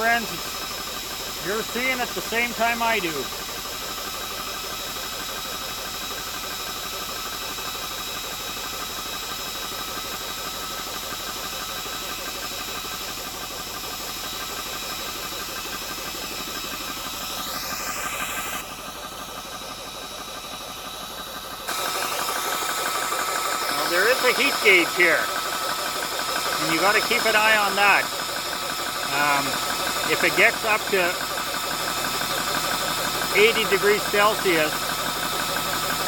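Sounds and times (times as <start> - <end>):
air compressor pumping and whining: 0.0 - 36.0.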